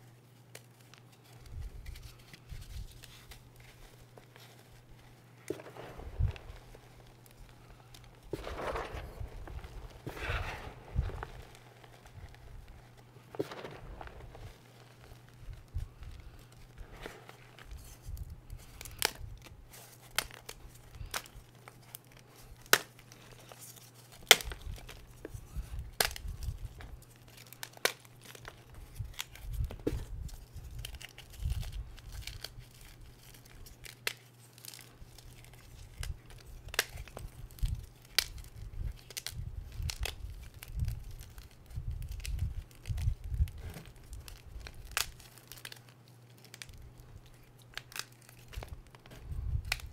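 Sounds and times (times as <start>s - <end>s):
crumbly rustle of chalk powder: 0.0s - 49.9s
chalk pieces snapping: 0.5s - 49.9s
soft thuds of breaking pieces: 1.5s - 45.8s.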